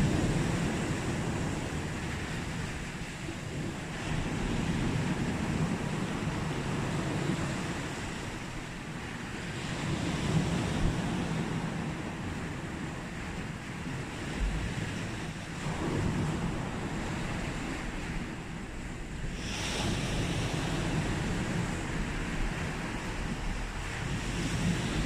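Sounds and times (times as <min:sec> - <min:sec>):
sea waves washing onto beach: 0:00.0 - 0:25.0.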